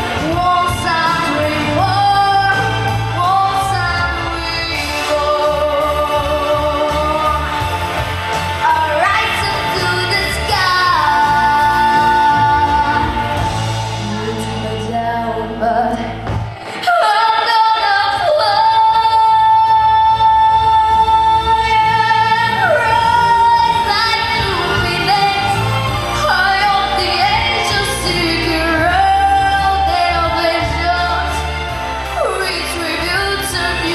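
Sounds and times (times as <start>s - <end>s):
backing track: 0.0s - 33.9s
woman singing pop song: 0.0s - 33.9s.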